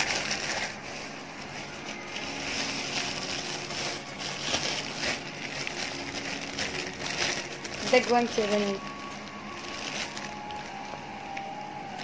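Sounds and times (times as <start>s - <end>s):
plastic bag and cellophane crinkling: 0.0s - 12.0s.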